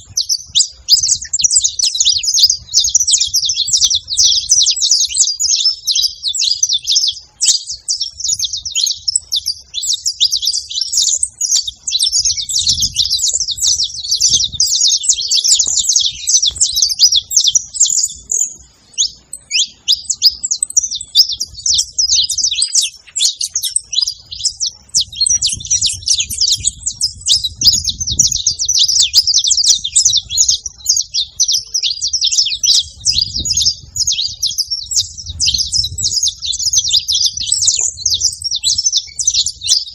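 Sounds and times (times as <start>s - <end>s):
finch chirping and singing: 0.0s - 39.9s.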